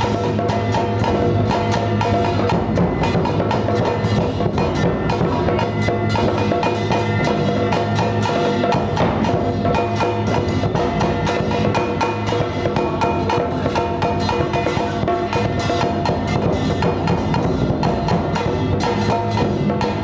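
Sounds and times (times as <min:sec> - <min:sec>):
drums: 0:00.0 - 0:20.0
sustained pitched instruments: 0:00.0 - 0:20.0
wood block struck in fast beat: 0:00.0 - 0:20.0.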